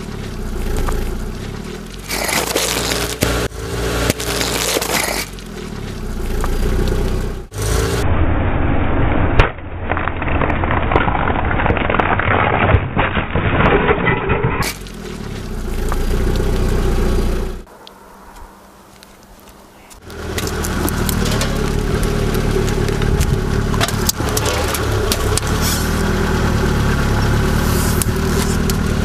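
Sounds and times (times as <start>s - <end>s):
car tyres crushing brittle objects: 0.0s - 7.4s, 9.4s - 29.0s
car engine running low: 0.0s - 9.5s, 14.6s - 29.0s.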